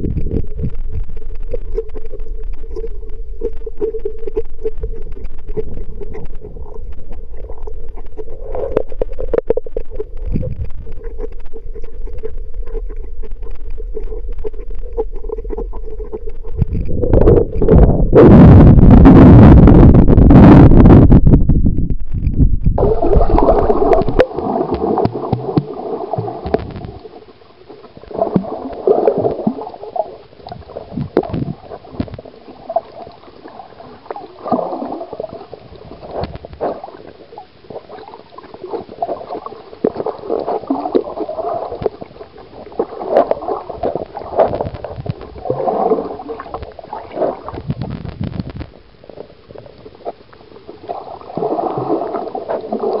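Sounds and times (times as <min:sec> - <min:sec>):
muffled underwater gurgling: 0:00.0 - 0:53.0.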